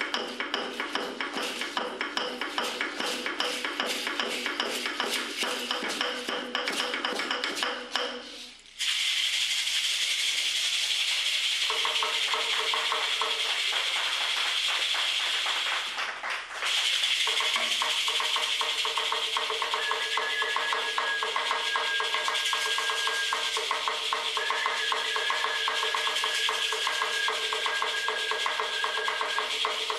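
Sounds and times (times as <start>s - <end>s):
rattle shaken fast: 0.0s - 29.9s.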